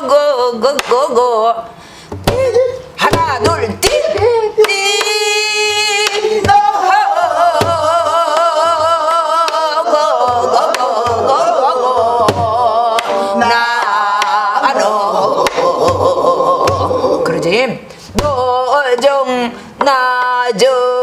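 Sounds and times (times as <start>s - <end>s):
woman singing wordless vocables: 0.0s - 21.0s.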